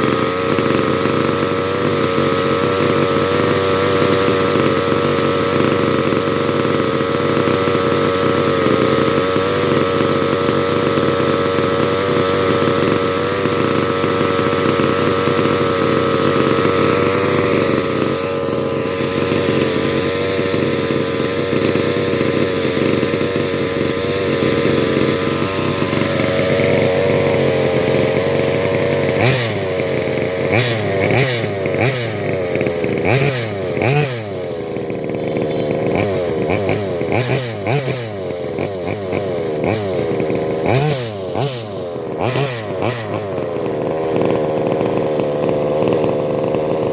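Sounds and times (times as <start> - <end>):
small two-stroke engine idling and revving: 0.0 - 46.9.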